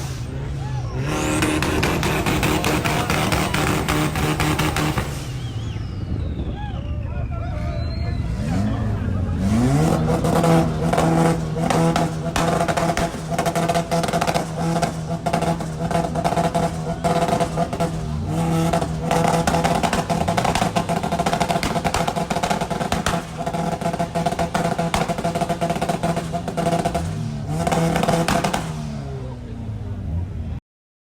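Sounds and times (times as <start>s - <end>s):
car engine revving: 0.0s - 6.4s, 7.8s - 30.6s.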